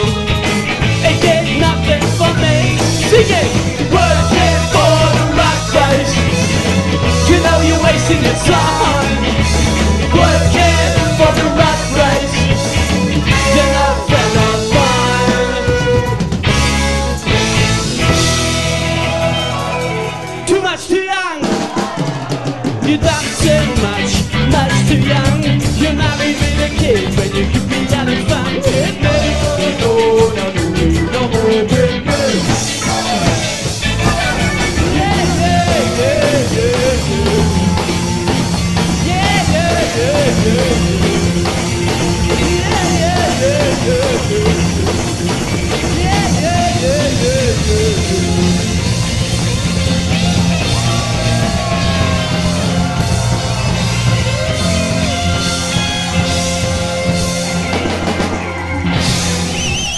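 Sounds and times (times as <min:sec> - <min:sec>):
sliding guitar lead line: 0:00.0 - 0:21.6, 0:22.6 - 0:59.9
live ska band playing: 0:00.0 - 0:59.9.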